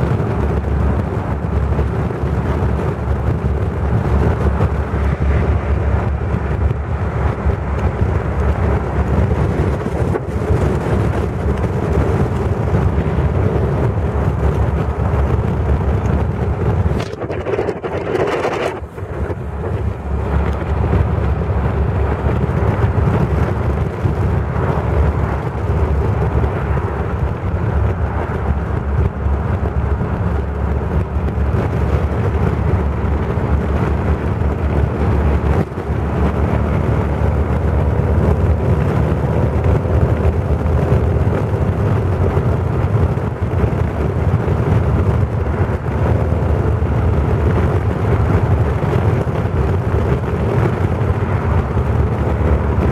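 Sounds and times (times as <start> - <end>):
car engine running steadily: 0.0 - 52.9
road noise: 0.0 - 52.9
wind: 0.0 - 52.9.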